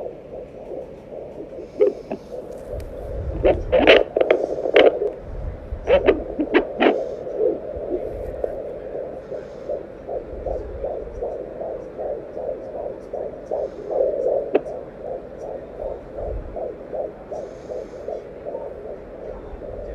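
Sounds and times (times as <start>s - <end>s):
fetal heartbeat whooshing pulses: 0.0s - 19.9s
steady hum: 0.0s - 19.9s.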